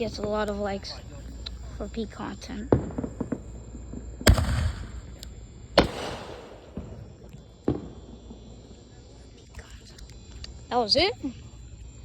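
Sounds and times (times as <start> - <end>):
firework bangs: 0.0 - 11.2
firework crackling hiss: 0.0 - 12.0.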